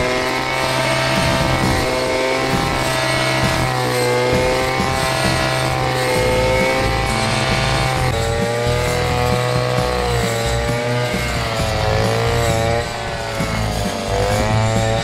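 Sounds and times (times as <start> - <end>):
small petrol engine running hard: 0.0 - 15.0.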